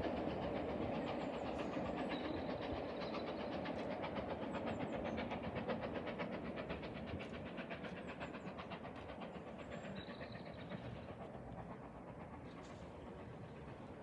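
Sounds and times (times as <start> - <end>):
steam train chuffing: 0.0 - 14.0.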